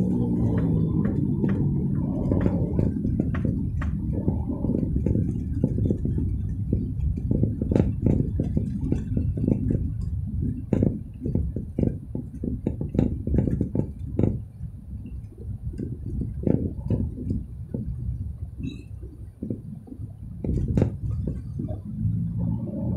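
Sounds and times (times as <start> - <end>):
small knocks and rattles: 0.0 - 22.7
car road noise rumbling: 0.0 - 22.9.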